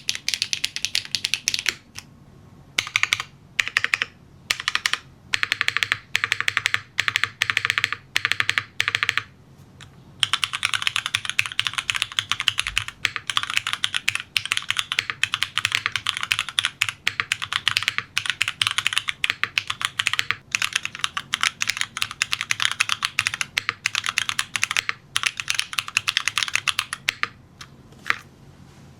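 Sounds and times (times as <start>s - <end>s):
mechanical keyboard typing: 0.0s - 2.1s, 2.8s - 9.3s, 10.2s - 28.3s.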